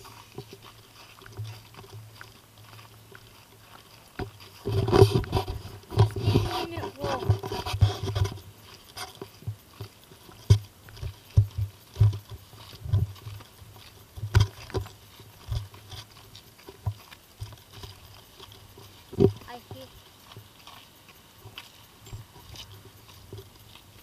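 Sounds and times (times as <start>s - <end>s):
footsteps on trail: 0.0s - 24.0s.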